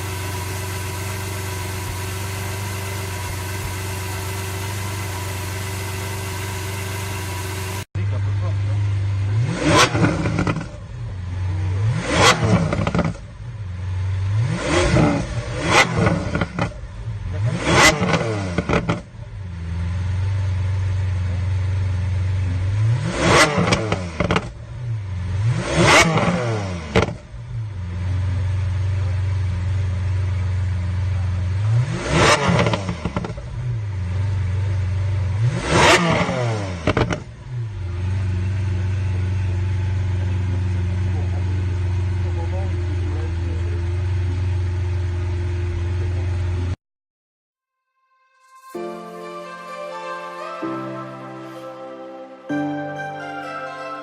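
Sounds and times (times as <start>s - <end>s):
car engine revving and idling: 0.0s - 46.8s.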